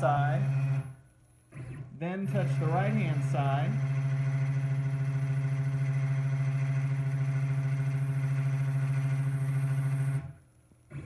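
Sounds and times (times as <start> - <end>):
stepper motors humming and whining: 0.0 - 1.0, 1.8 - 11.0.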